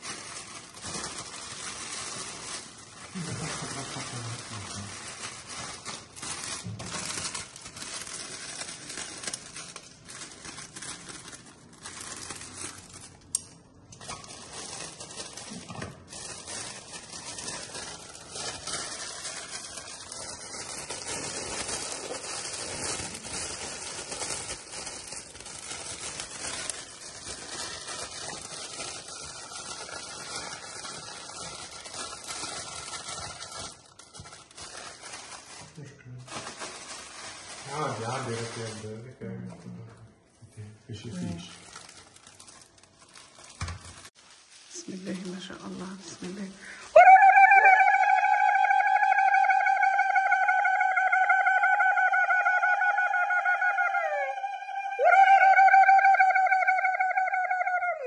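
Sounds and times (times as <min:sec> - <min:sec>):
cellophane crinkling: 0:00.0 - 0:58.0.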